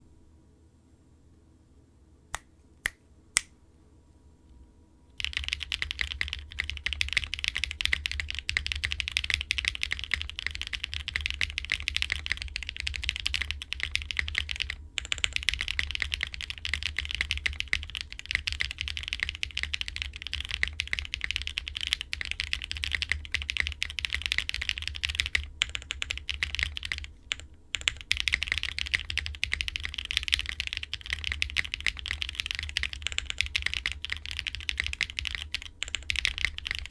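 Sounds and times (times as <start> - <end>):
fast typing on mechanical keyboard: 5.2 - 36.9.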